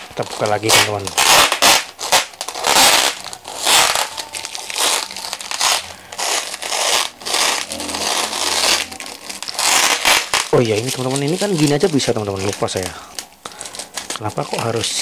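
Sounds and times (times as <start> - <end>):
plastic wrapping crinkling and tearing: 0.0 - 15.0.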